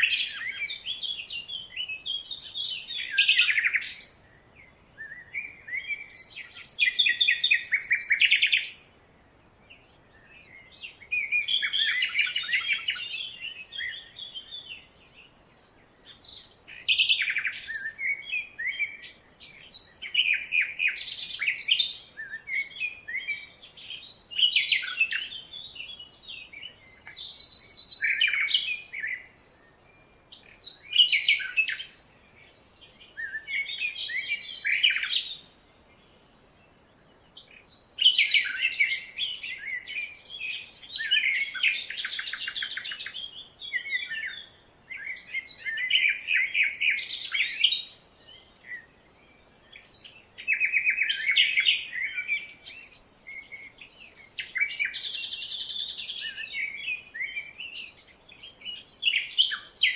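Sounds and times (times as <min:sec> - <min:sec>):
birds singing and chirping: 0:00.0 - 0:59.9.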